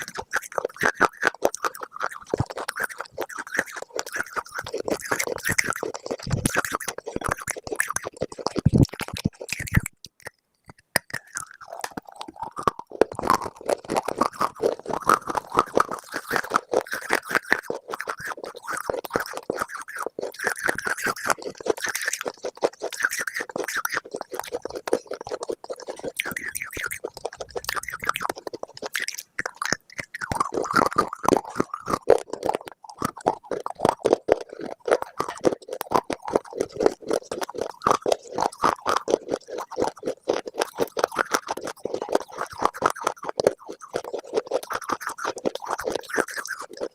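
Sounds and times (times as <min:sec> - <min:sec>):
crunching brittle food: 0:00.0 - 0:46.9.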